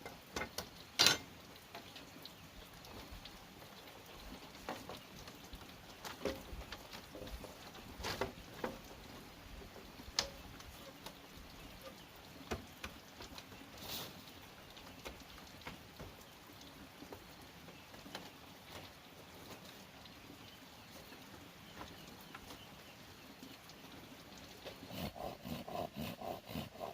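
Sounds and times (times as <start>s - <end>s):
faint steady hiss: 0.0s - 26.9s.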